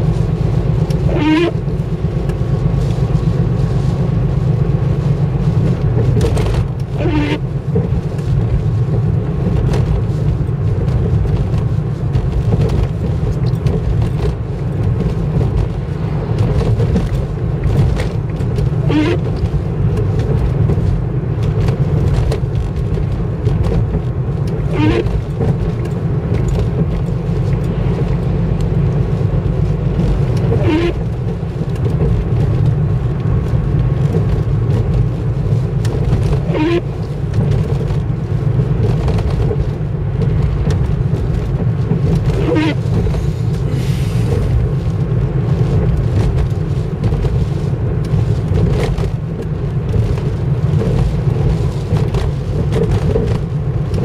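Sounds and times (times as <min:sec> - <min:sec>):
car road and engine noise: 0:00.0 - 0:54.0
windscreen wiper squeaking: 0:00.0 - 0:54.0.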